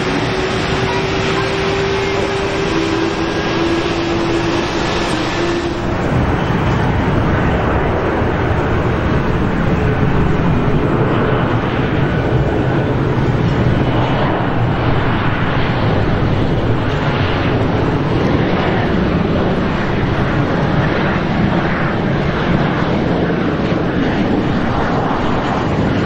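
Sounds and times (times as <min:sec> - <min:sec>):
deep jet engine rumble: 0:00.0 - 0:26.0
jet engine whine: 0:00.0 - 0:26.0.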